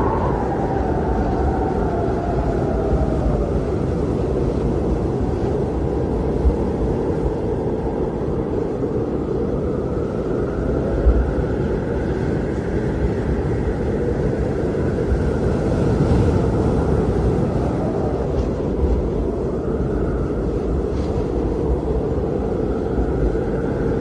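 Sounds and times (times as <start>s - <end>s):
blizzard wind howling: 0.0s - 24.0s.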